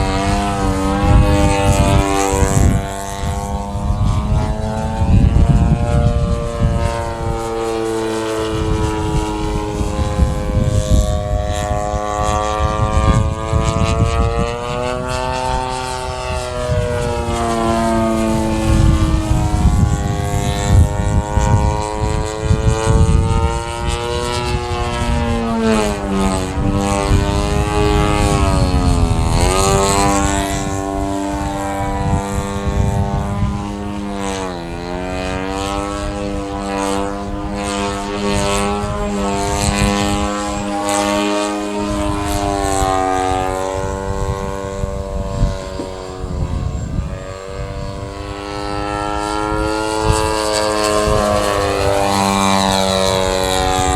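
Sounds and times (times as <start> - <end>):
model aircraft engine buzzing: 0.0 - 53.9.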